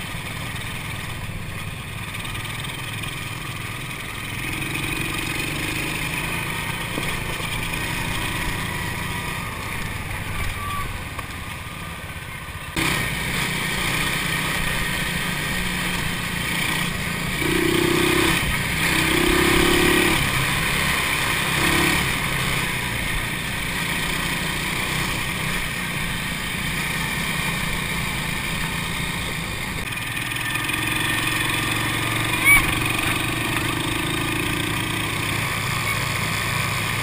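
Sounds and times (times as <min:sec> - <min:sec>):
atv engines running: 0:00.0 - 0:37.0.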